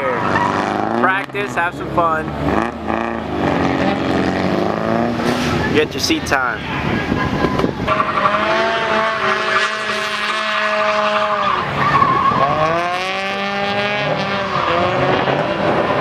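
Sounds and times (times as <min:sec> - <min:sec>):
tyres squealing: 0:00.0 - 0:13.4
car engine revving high: 0:00.0 - 0:16.0.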